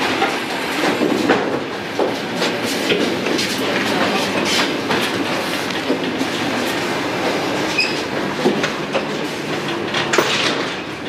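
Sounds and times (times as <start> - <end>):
train running noise: 0.0 - 11.0
wheels clattering over rail joints: 0.0 - 11.0.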